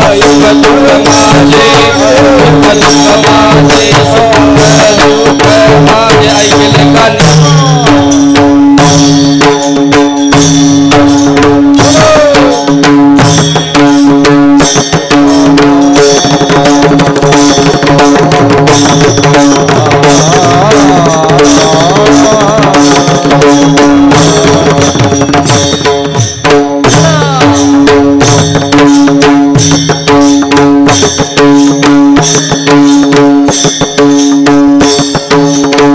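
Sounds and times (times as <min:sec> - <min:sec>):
hand drum rhythm: 0:00.0 - 0:35.9.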